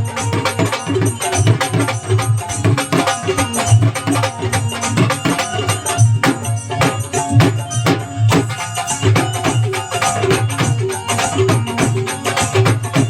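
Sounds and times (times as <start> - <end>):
jingling hand percussion: 0.0 - 13.0.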